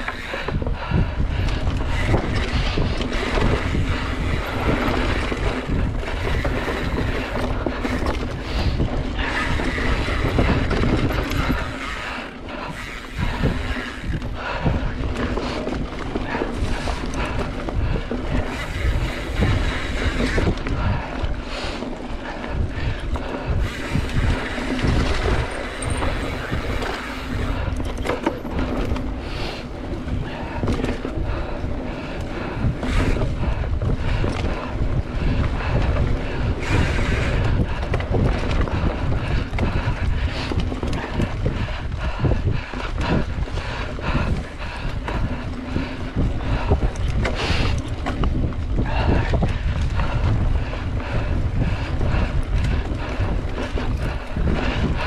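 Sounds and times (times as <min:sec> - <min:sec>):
bike knocking and rattling: 0:00.0 - 0:55.0
bike tyres rumbling on dirt: 0:00.0 - 0:55.0
wind rushing over microphone: 0:00.0 - 0:55.0.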